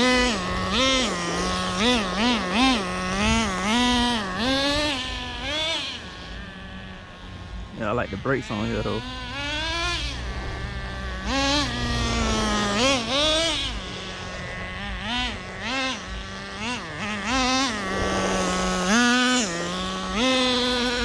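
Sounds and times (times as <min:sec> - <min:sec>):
small nitro engine revving: 0:00.0 - 0:21.0.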